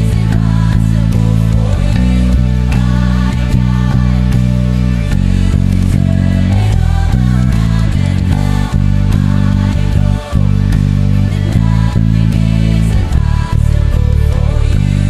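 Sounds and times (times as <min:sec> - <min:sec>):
electric bass guitar: 0:00.0 - 0:15.0.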